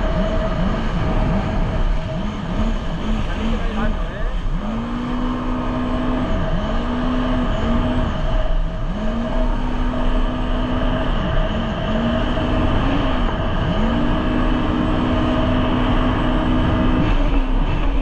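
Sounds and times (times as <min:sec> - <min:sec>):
jet ski engine revving: 0:00.0 - 0:18.0
steady rushing noise: 0:00.0 - 0:18.0.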